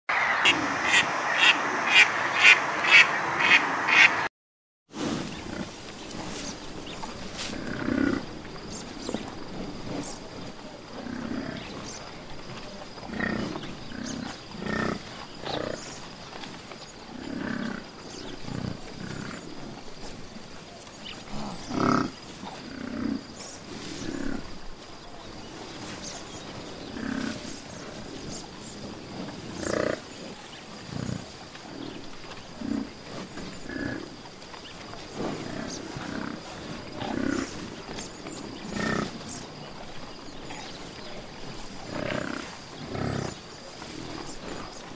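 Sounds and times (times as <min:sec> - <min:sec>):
background hiss: 0:05.0 - 0:44.9.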